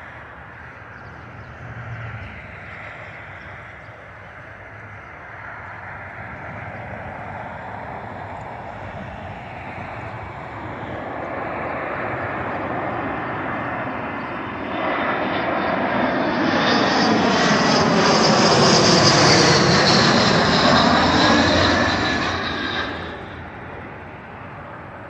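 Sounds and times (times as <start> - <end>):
jet airliner flying overhead: 0.0 - 25.0
high engine whine: 0.1 - 25.0.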